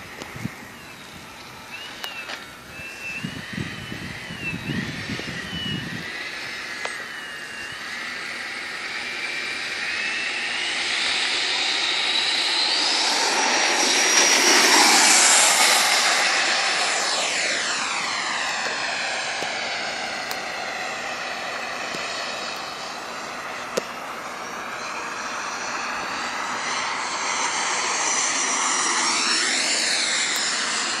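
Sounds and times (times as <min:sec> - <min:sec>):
model jet fan whining: 0:00.0 - 0:31.0.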